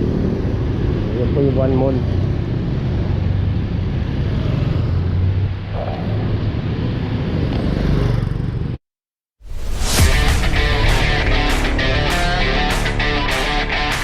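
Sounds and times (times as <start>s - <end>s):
road traffic rumble: 0.0s - 8.8s, 10.1s - 14.0s.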